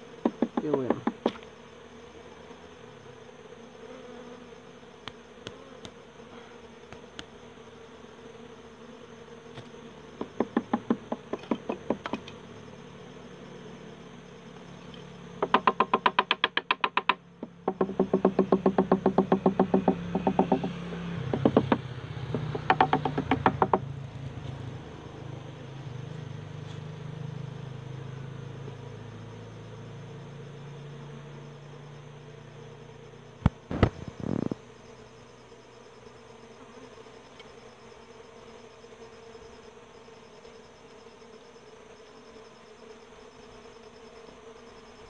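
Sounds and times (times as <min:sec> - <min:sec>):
wasps buzzing: 0:00.0 - 0:45.0.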